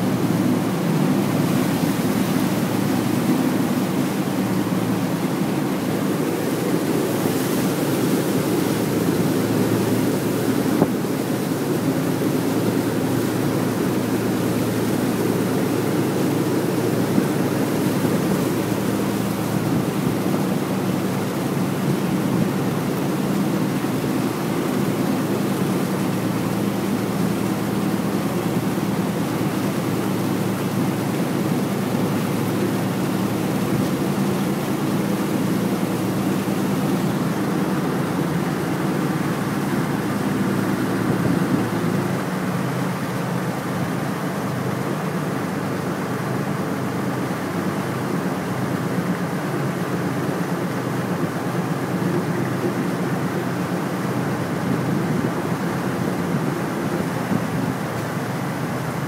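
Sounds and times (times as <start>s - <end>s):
ferry diesel engine drone: 0.0s - 59.0s
wind and water hiss: 0.0s - 59.0s.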